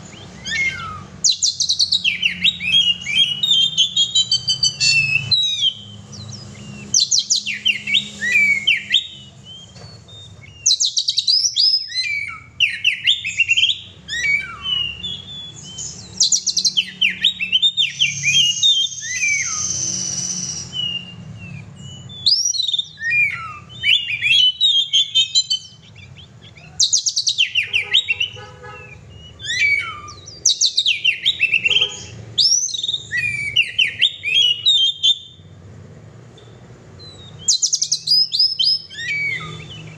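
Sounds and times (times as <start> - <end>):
bird singing whistled notes: 0.0 - 35.6, 36.3 - 39.9.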